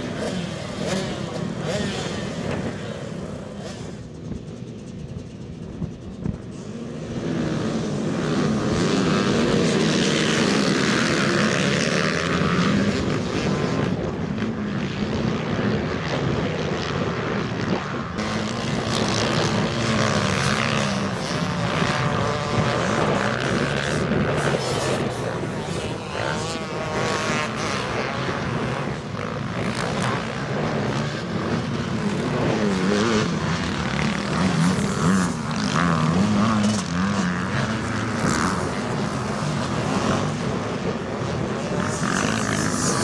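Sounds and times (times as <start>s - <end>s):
motocross bike engines revving: 0.0s - 43.0s.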